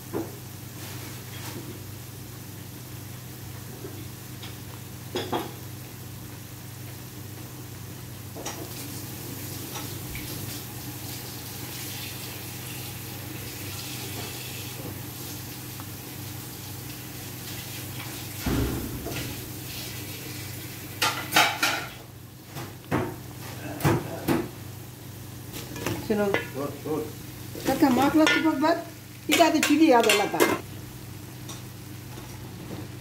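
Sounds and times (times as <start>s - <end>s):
food sizzling in a pan: 0.0s - 22.1s, 24.4s - 32.4s.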